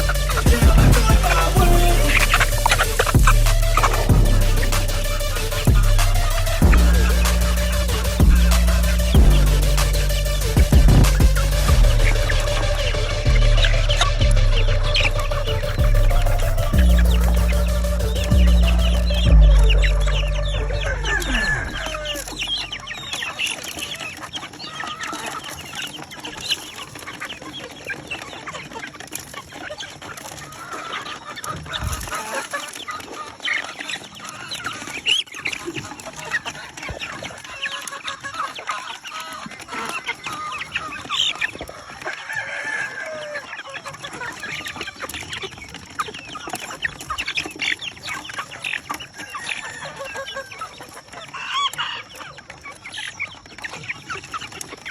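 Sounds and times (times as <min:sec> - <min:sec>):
roosters crowing: 0:00.0 - 0:28.0, 0:30.1 - 0:54.9
chickens clucking: 0:00.0 - 0:54.9.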